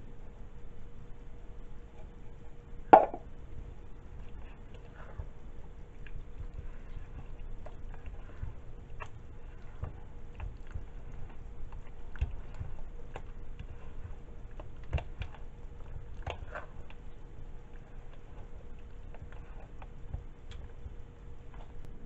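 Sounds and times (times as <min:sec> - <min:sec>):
wet squelching of stirred filling: 0:03.6 - 0:21.9.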